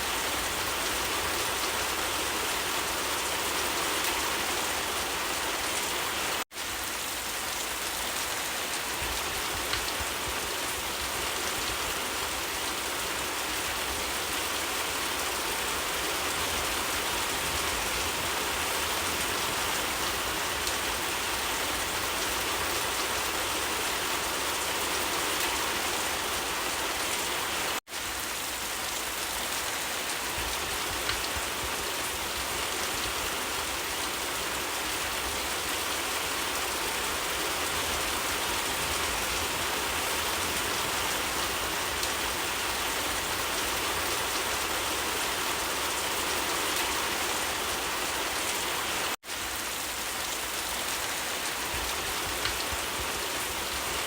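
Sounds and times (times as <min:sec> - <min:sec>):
rain falling on surfaces: 0:00.0 - 0:54.0.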